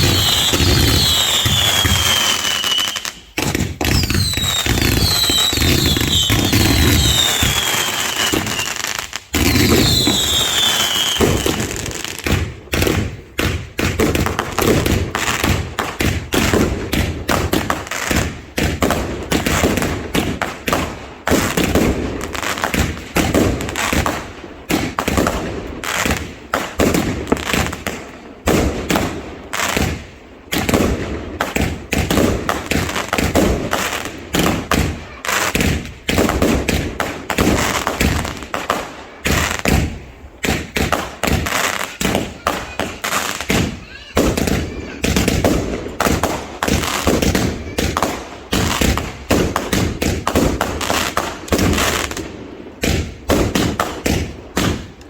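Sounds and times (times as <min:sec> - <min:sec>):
fireworks bangs and crackle: 0:00.0 - 0:55.0
fireworks whistling: 0:00.0 - 0:55.0.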